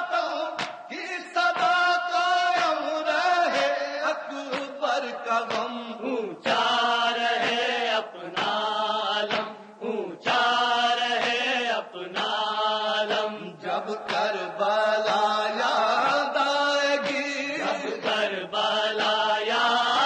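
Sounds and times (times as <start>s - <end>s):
man chanting a lament: 0.0s - 20.0s.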